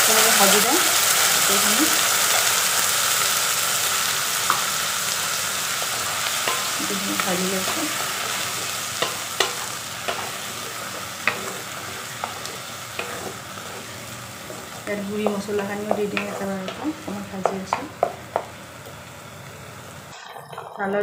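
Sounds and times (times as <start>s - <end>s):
paste sizzling in hot oil: 0.0s - 20.7s.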